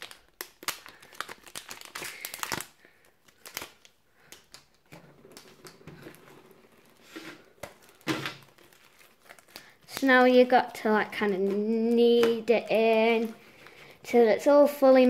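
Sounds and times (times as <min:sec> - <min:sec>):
foil packet crinkling: 0:00.0 - 0:15.0.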